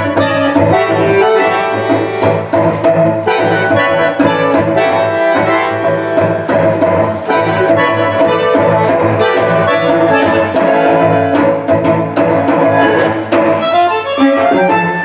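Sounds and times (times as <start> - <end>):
bandoneon chords: 0.0 - 15.0
cello line: 0.0 - 15.0.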